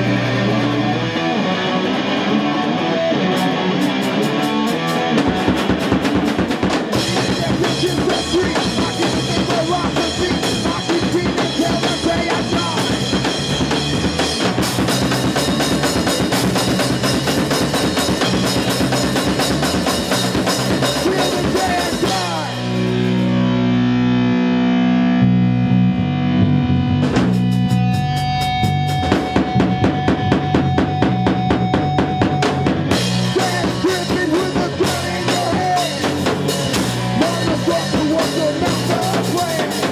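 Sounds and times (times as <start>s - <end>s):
electric guitars playing: 0.0s - 39.9s
drums and cymbals beating: 3.4s - 23.4s, 26.9s - 39.9s.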